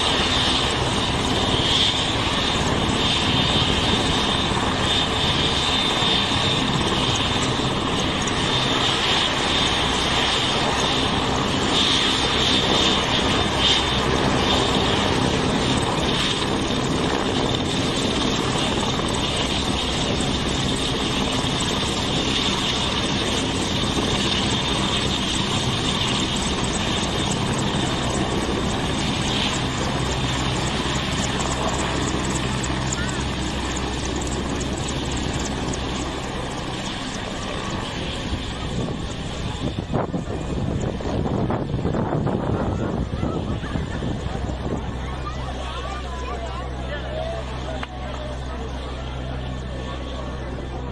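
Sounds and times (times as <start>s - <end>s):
helicopter rotor noise: 0.0s - 50.9s
helicopter turbine whine: 0.0s - 50.9s.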